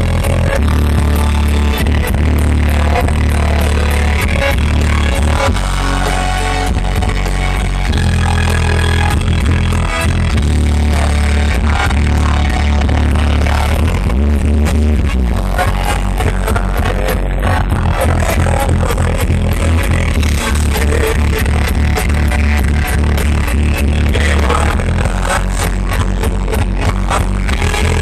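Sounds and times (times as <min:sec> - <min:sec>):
heavy bass line: 0:00.0 - 0:28.0
live rock band playing: 0:00.0 - 0:28.0.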